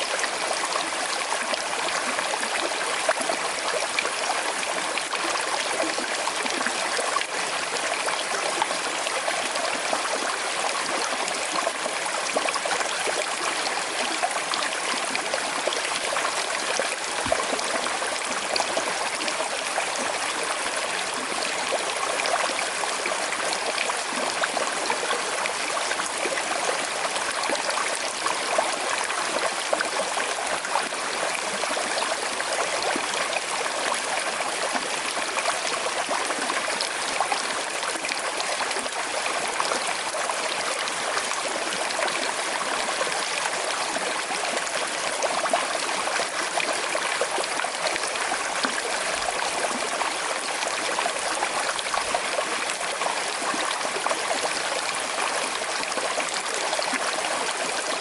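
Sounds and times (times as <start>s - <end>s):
river babbling over stones: 0.0s - 58.0s.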